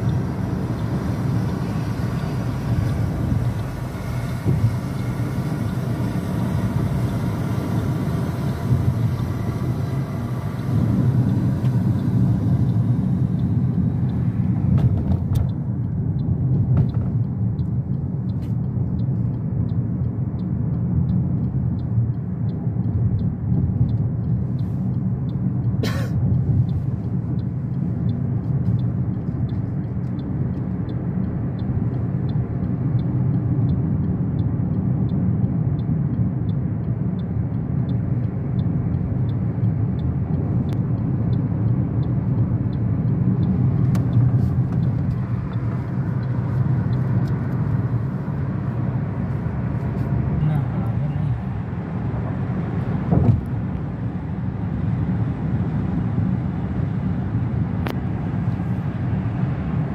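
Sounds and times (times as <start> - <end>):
faint regular ticking: 0.0 - 54.9
car road and engine rumble: 0.0 - 59.9.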